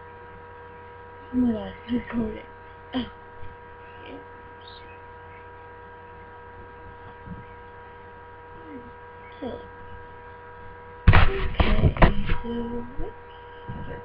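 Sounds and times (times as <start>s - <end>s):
electrical hum with thin tones: 0.0s - 14.0s.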